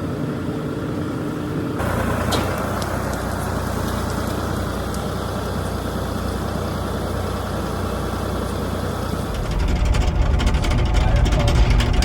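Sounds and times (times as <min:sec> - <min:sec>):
tractor engine running: 0:01.8 - 0:12.0.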